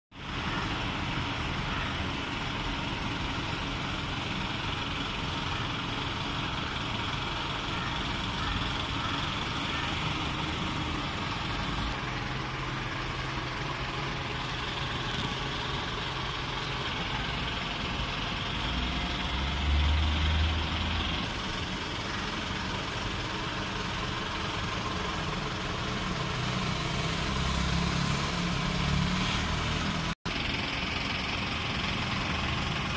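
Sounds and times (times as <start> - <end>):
vehicle engines in traffic: 0.1 - 32.9
low vehicle rumble: 0.2 - 32.9.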